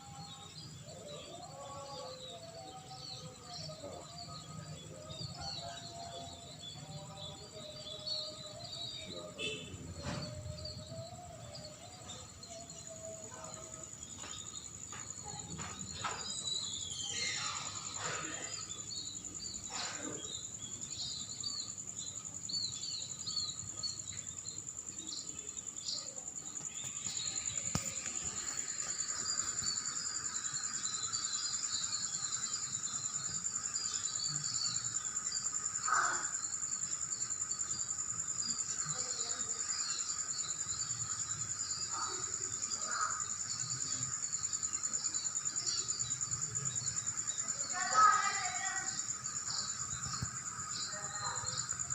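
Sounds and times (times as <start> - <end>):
bird chirps: 0.0 - 51.9
high-pitched insect drone: 0.0 - 51.9.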